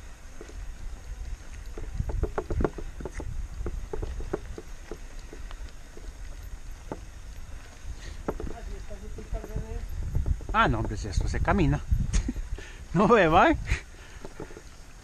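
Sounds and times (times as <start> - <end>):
wind rumble on microphone: 0.0 - 15.0
bike rattling over stones: 1.6 - 13.4, 14.0 - 14.8.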